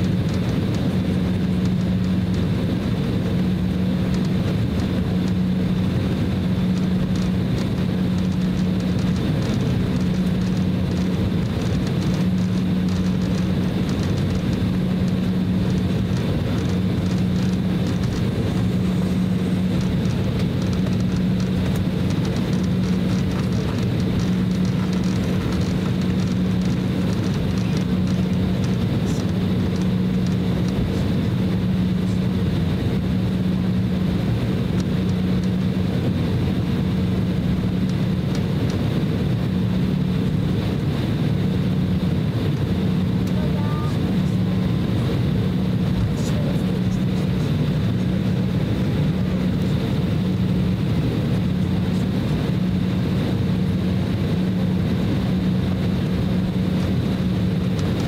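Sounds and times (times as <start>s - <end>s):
jet engines droning with whine: 0.0s - 58.0s
steady cabin rushing noise: 0.0s - 58.0s.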